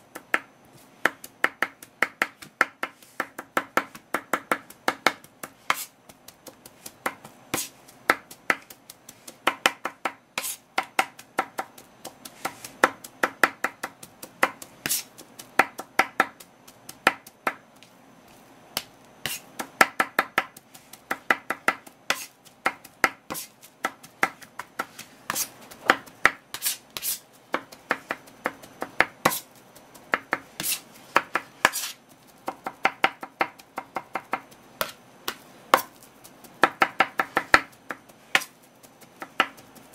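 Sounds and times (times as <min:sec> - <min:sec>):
knife chopping on cutting board: 0:00.2 - 0:17.6, 0:18.8 - 0:29.5, 0:30.1 - 0:36.0, 0:36.6 - 0:38.5, 0:39.2 - 0:39.6.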